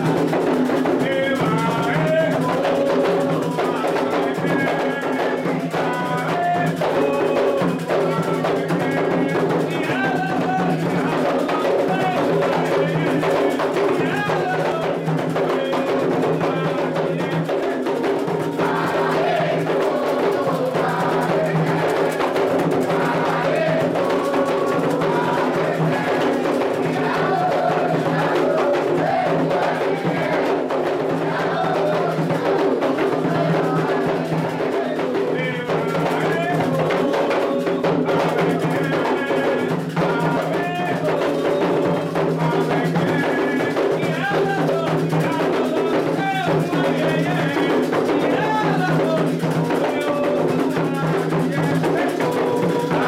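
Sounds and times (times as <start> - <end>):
hand drums playing: 0.0 - 53.0
voices singing a chant: 0.0 - 53.0.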